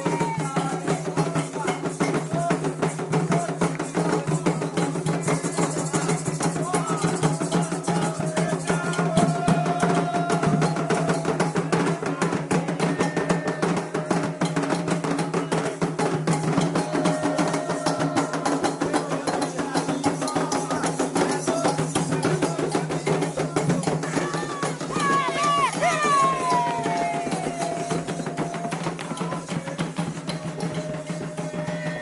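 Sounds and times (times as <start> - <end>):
agogo bell rhythm: 0.0 - 32.0
hand drums playing: 0.0 - 32.0.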